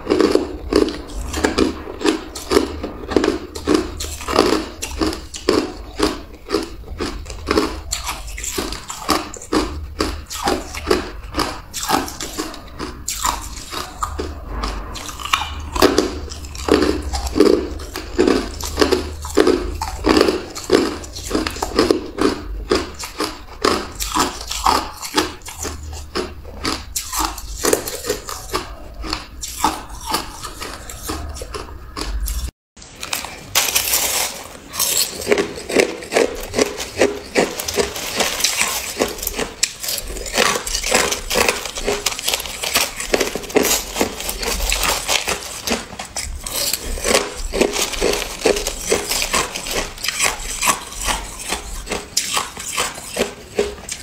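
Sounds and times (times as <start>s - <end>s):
ice crunched between teeth: 0.0s - 54.0s.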